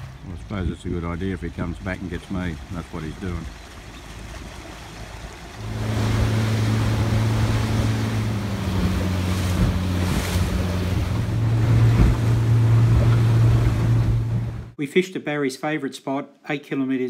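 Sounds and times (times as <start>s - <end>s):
outboard motor humming: 0.0s - 14.8s
water rushing from wake: 0.0s - 14.8s
wind buffeting microphone: 0.0s - 14.8s.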